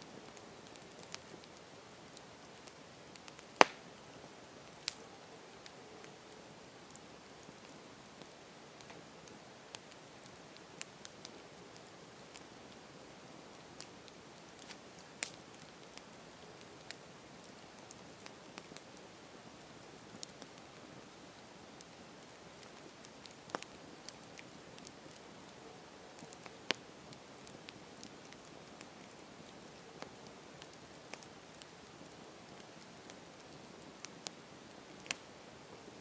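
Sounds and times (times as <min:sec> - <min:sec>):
campfire hissing and crackling: 0:00.0 - 0:36.0.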